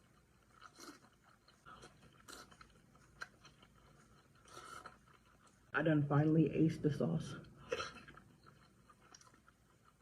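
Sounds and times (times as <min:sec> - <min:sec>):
chewing and mouth sounds: 0:00.0 - 0:05.8, 0:07.4 - 0:10.0.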